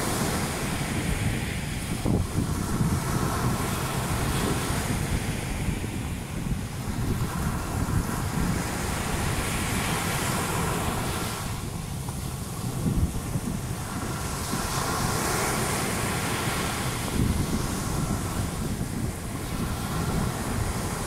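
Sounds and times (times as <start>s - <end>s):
small waves breaking on shore: 0.0s - 21.0s
wind buffeting microphone: 0.0s - 21.0s.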